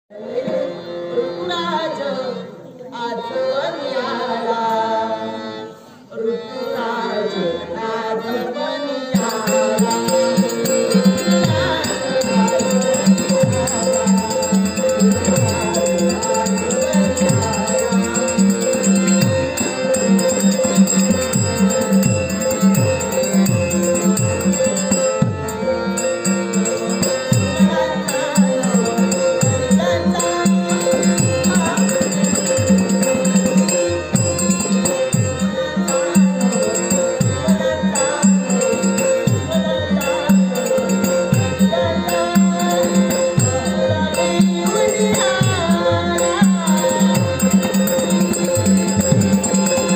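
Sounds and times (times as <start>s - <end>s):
harmonium drone and melody: 0.1s - 49.9s.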